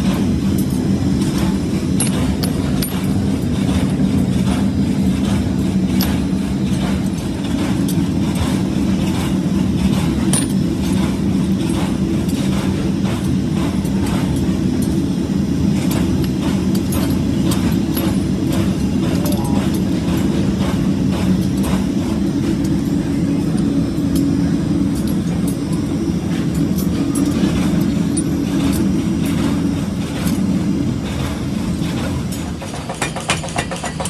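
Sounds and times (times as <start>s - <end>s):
machine drone: 0.0s - 34.0s.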